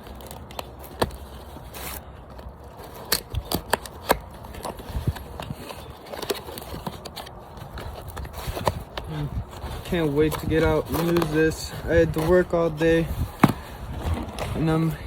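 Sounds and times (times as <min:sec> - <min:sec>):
cardboard box being handled: 0:00.0 - 0:15.0.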